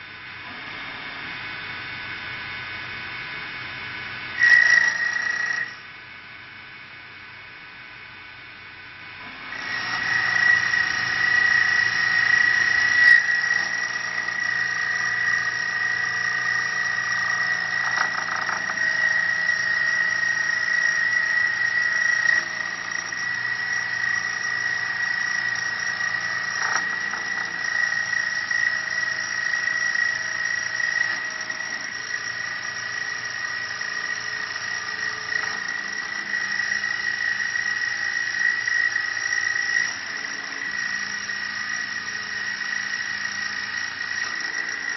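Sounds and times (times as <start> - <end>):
lathe spindle high-pitched whine: 0.0 - 44.9
tool cutting wood: 4.4 - 5.8, 9.2 - 44.9.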